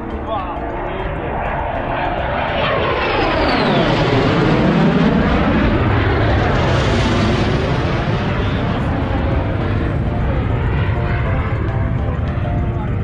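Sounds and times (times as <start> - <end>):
fighter jet roaring overhead: 0.0 - 13.0.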